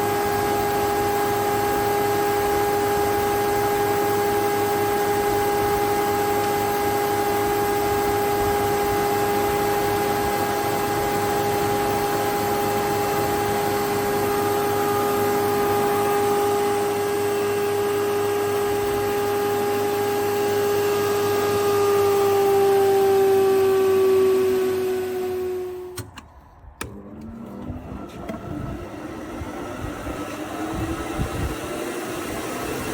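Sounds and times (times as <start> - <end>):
planer motor whining: 0.0 - 32.9.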